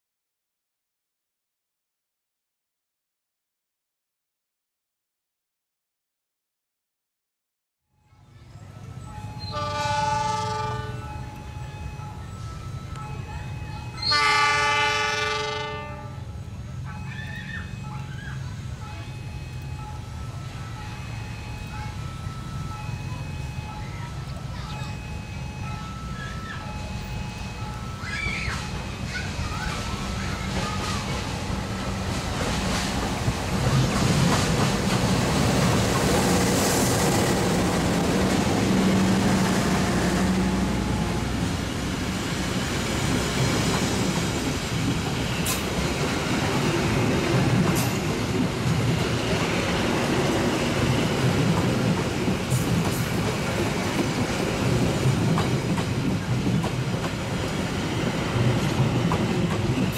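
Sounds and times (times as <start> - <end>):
train passing on rails: 8.0 - 59.9.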